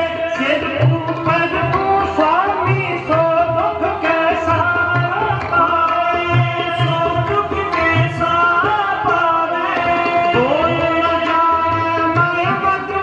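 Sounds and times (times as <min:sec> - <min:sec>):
harmonium chords: 0:00.0 - 0:13.0
tabla rhythm: 0:00.0 - 0:13.0.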